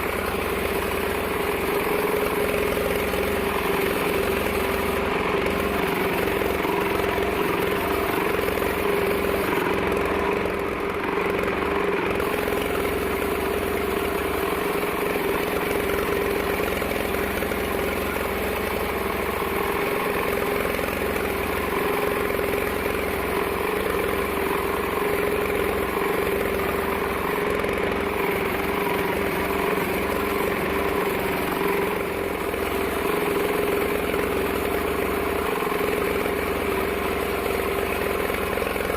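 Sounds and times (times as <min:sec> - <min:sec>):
bandsaw machinery humming: 0:00.0 - 0:38.9.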